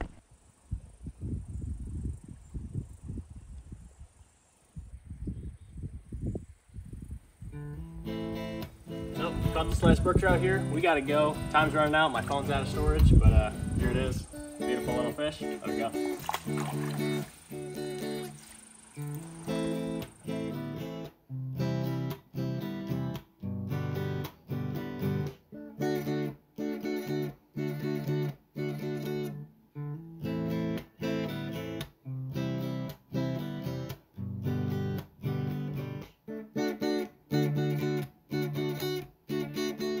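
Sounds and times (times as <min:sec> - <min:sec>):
strummed acoustic guitar: 0:07.8 - 0:40.0.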